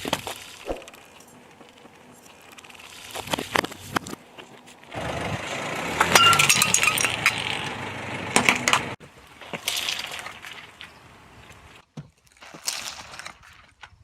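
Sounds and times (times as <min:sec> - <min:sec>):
tyre noise: 0:00.0 - 0:13.4.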